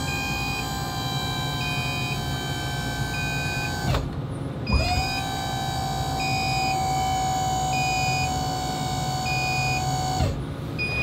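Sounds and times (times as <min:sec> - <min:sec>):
hydraulic pump motor whining: 0:00.0 - 0:11.0.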